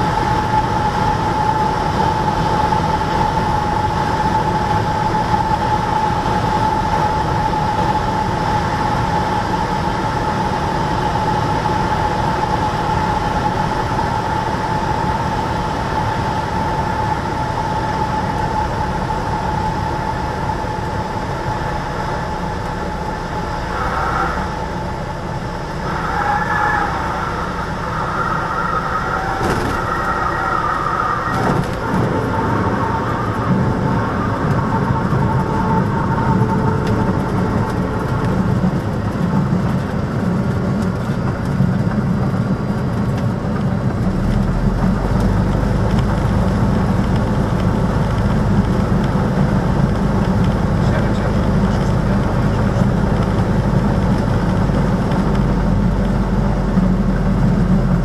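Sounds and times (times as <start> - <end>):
small plane engine drone: 0.0 - 58.0
steady whine: 0.0 - 58.0.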